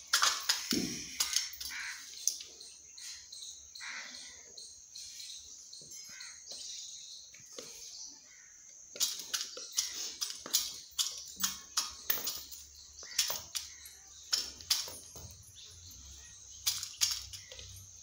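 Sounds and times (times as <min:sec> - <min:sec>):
faint bird chirps: 0:00.4 - 0:18.0.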